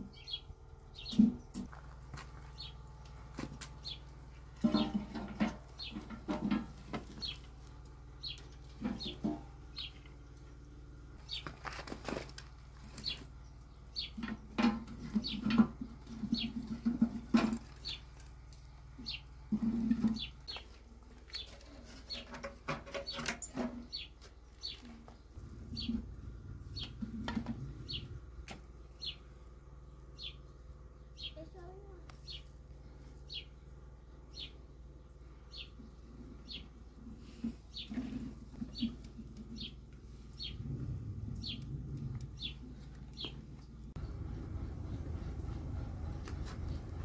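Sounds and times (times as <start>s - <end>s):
birds chirping: 0.0s - 11.8s, 12.5s - 47.0s.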